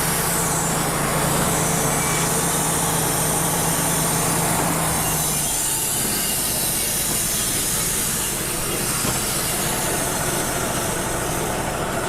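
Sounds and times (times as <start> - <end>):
band sawmill cutting log: 0.0 - 12.0.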